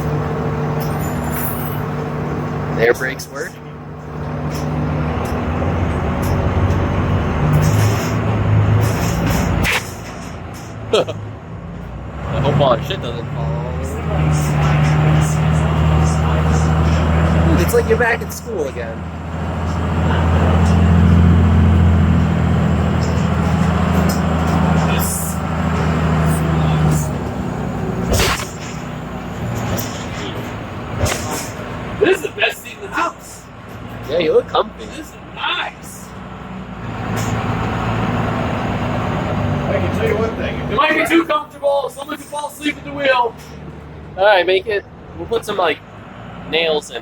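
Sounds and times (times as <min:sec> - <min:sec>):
rattling bus body: 0:00.0 - 0:12.2, 0:13.0 - 0:44.3
bus engine under load: 0:00.0 - 0:47.0
road noise: 0:00.0 - 0:47.0.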